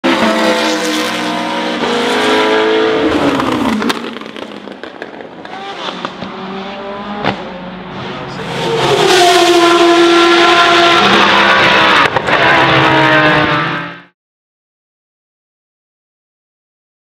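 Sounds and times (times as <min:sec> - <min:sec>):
race car engines passing: 0:00.0 - 0:14.1.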